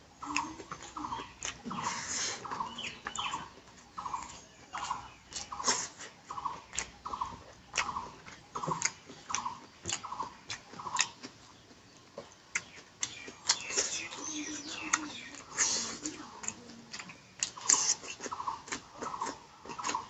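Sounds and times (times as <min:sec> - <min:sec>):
wet chewing and mouth clicks: 0:00.0 - 0:20.0.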